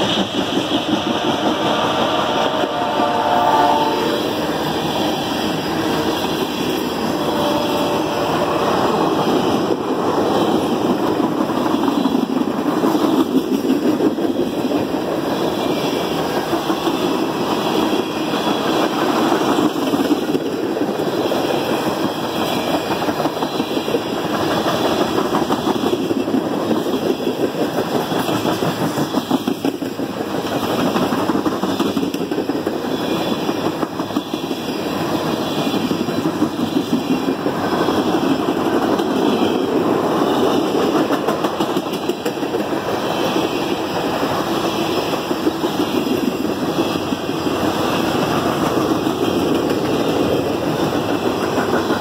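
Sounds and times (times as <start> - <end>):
steel train wheels rumbling on rails: 0.0 - 52.0.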